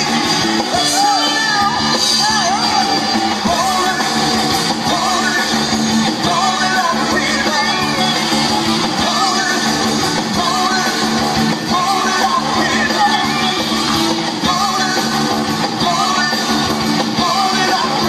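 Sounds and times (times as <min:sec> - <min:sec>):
lead singer singing: 0:00.0 - 0:18.0
live band playing: 0:00.0 - 0:18.0.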